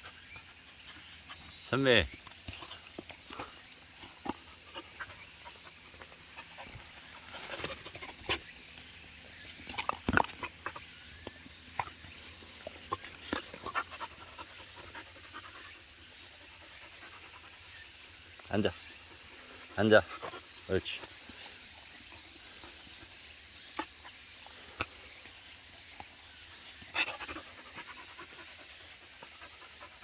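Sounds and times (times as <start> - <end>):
dog panting: 0.0 - 8.9, 11.7 - 18.4, 19.1 - 30.0.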